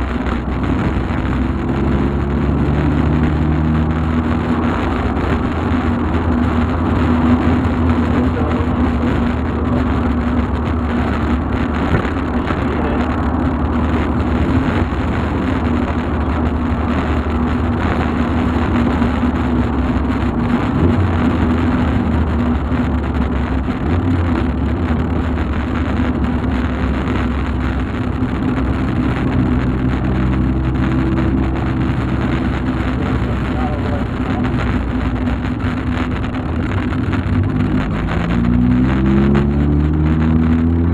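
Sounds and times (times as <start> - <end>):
car engine running: 0.0 - 40.9
road noise: 0.0 - 40.9.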